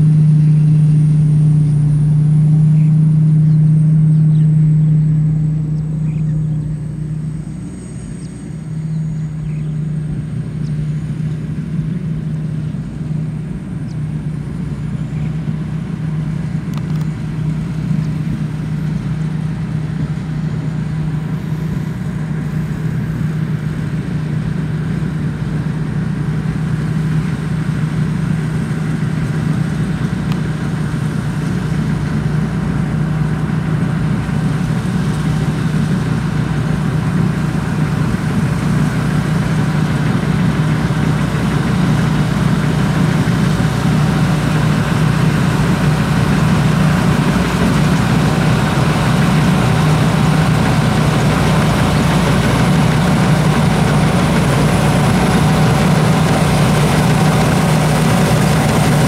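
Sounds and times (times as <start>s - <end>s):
combine harvester engine running: 0.0s - 59.0s
high whine: 0.0s - 59.0s.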